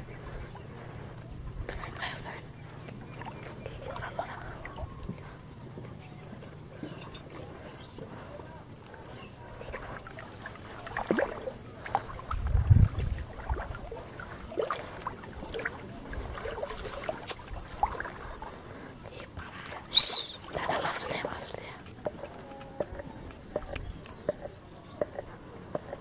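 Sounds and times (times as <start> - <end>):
muddy water sloshing and splashing: 0.0 - 26.0.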